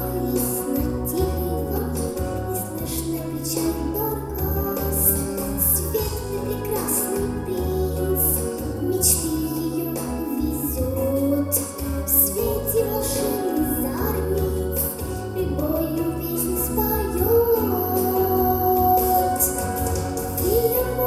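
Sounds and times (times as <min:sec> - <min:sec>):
girl singing: 0:00.0 - 0:21.0
recorded backing track: 0:00.0 - 0:21.0.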